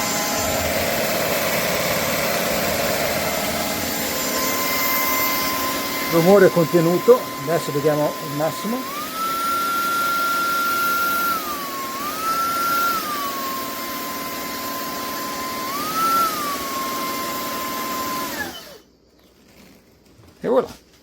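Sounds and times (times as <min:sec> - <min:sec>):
stick vacuum motor whine: 0:00.0 - 0:19.0.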